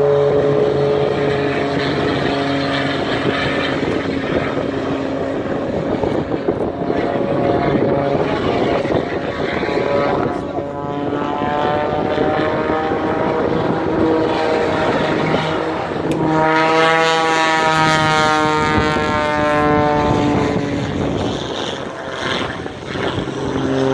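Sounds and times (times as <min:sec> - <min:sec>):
propeller airplane flying past: 0:00.0 - 0:23.9.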